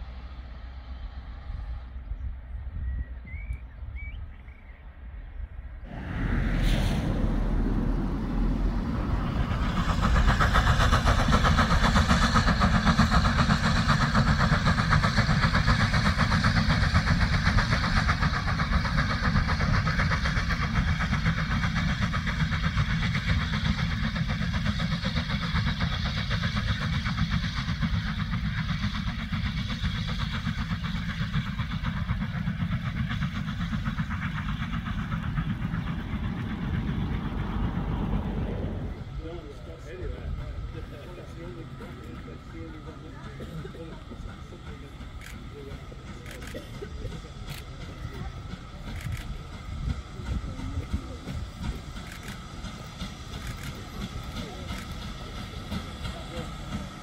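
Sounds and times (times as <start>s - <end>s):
steam locomotive working hard: 0.0s - 57.0s
train running on rails: 0.0s - 57.0s.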